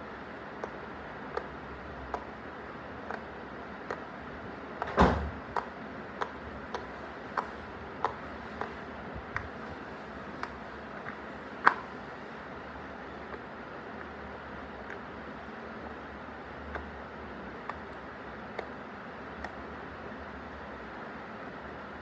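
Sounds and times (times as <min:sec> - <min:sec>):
fan hiss: 0:00.0 - 0:22.0.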